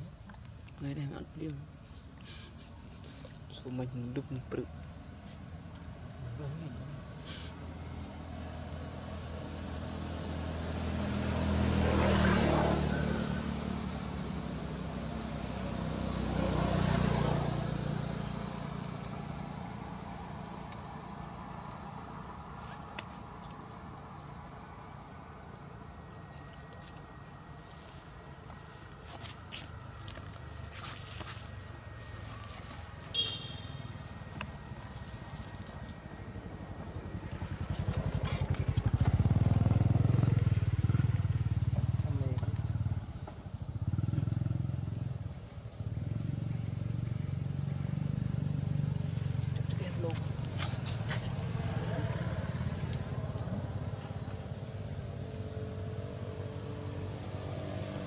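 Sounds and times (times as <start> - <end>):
insects droning: 0.0 - 58.0
vehicles passing: 0.1 - 58.0.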